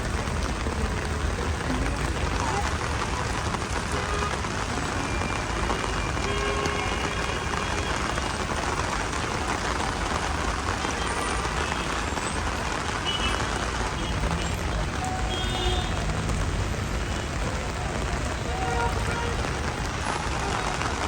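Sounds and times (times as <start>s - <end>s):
heavy rain on street: 0.0s - 21.0s
traffic on wet road: 0.0s - 21.0s.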